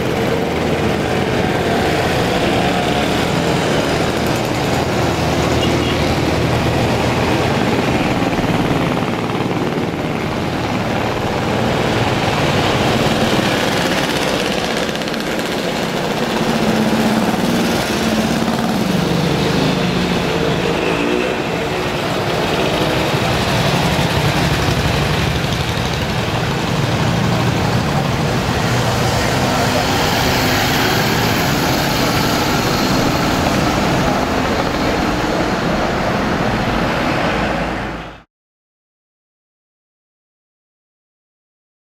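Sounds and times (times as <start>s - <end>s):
small motorcycle engines running: 0.0s - 35.6s.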